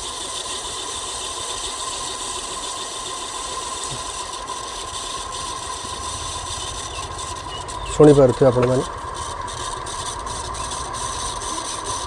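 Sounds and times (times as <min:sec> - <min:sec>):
ceiling fan whirring: 0:00.0 - 0:12.0
scratchy bearing hiss: 0:00.0 - 0:12.0.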